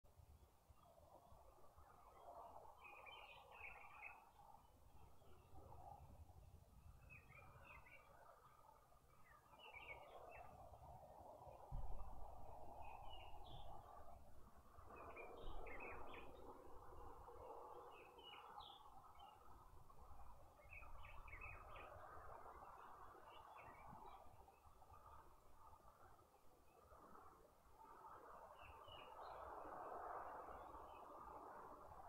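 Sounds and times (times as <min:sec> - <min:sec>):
low steady background noise: 0:00.1 - 0:32.0
faint bird chirps: 0:00.7 - 0:32.0.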